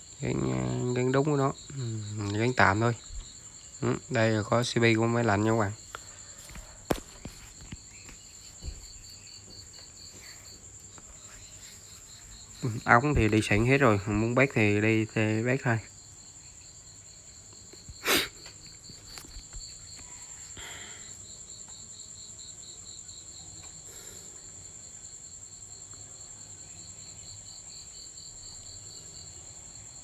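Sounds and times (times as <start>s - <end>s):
insects chirring: 0.0s - 30.0s.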